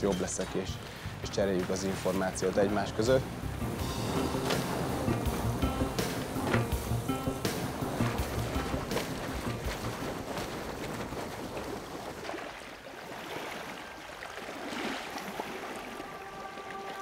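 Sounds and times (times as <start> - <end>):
small waves lapping and splashing: 0.0 - 17.0.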